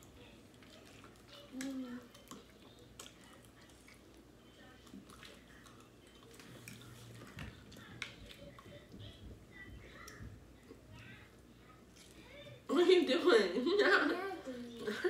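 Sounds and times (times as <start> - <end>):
people chewing food: 0.0 - 12.7.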